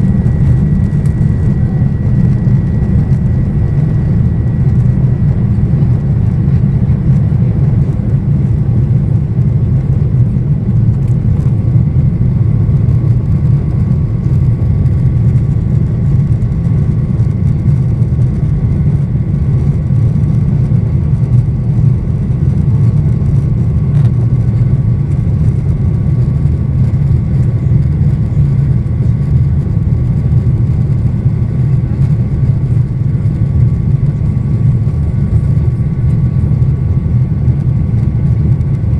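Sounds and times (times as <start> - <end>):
faint steady whine: 0.0 - 38.9
jet engine cabin rumble: 0.0 - 38.9.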